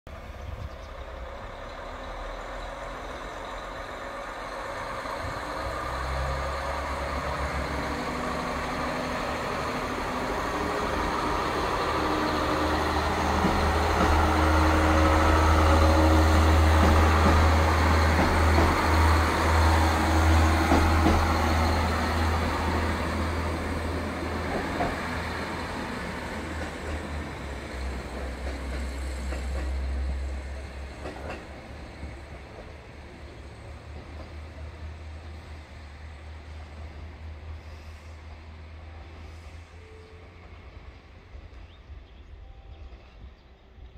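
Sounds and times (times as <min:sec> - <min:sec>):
diesel train engines droning: 0:00.1 - 0:43.9.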